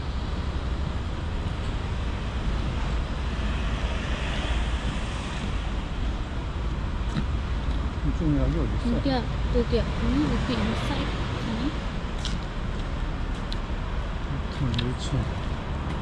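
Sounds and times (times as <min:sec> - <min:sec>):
outdoor street noise: 0:00.0 - 0:16.0
wind buffeting microphone: 0:00.0 - 0:16.0.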